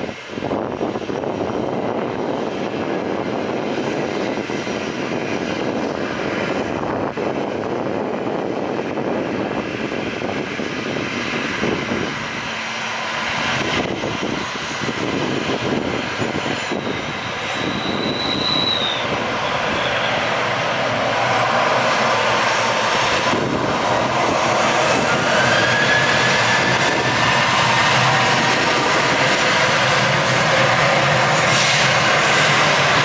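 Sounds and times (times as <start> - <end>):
jet engines running: 0.0 - 33.0
rising jet engine whine: 0.0 - 33.0.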